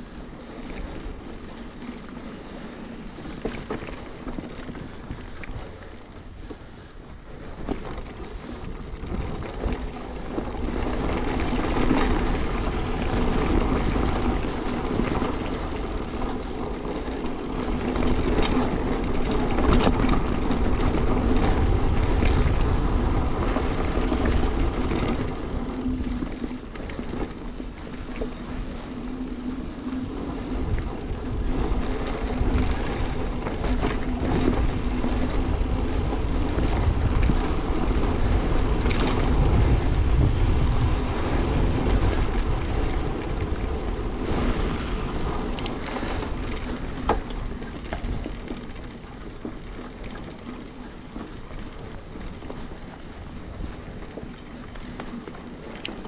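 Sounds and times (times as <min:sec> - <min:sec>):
bike rattling over bumps: 0:00.0 - 0:56.0
bike tyres rumbling on dirt: 0:00.0 - 0:56.0.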